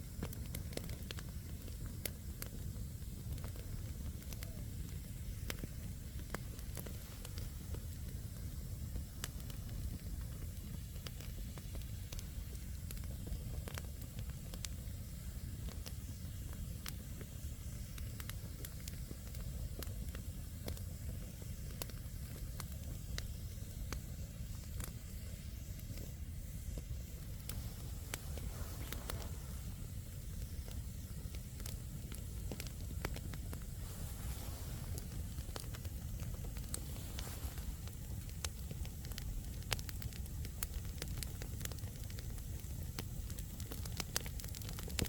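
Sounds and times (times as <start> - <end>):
campfire crackling and popping: 0.0 - 45.0
low fire rumble: 0.0 - 45.0.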